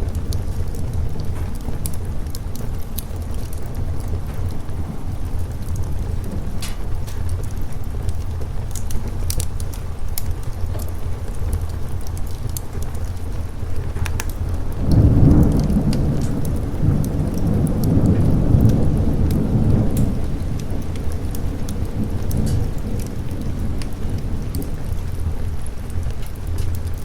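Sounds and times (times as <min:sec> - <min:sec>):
fireplace crackling: 0:00.0 - 0:27.0
rolling thunder: 0:00.0 - 0:27.0
steady rain: 0:00.0 - 0:27.0.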